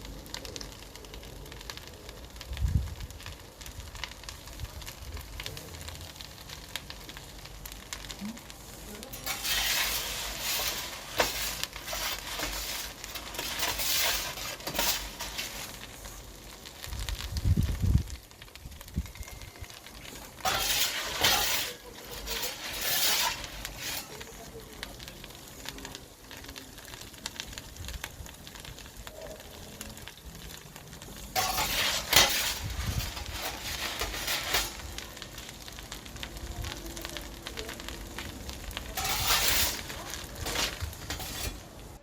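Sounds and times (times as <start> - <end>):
wood fire crackling and hissing: 0.0 - 42.0.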